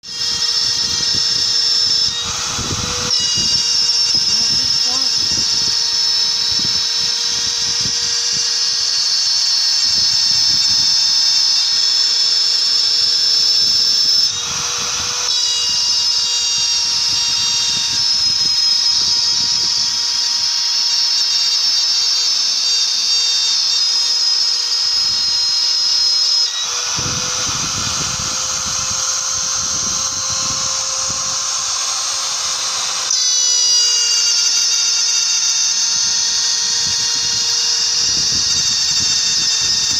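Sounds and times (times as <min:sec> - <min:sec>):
router spindle whining: 0:00.0 - 0:39.9
stepper motor drives: 0:00.1 - 0:39.9.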